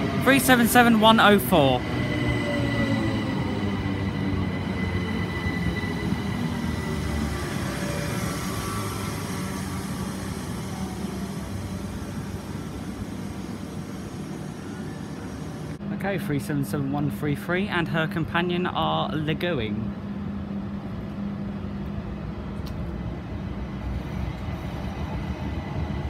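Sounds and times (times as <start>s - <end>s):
train equipment humming: 0.0s - 26.0s.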